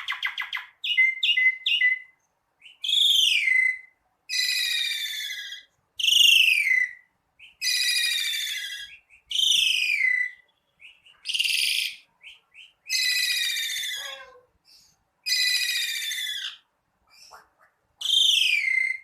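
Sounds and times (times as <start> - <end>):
bird whistling downward phrases: 0.0 - 14.4, 15.2 - 16.6, 18.0 - 19.0.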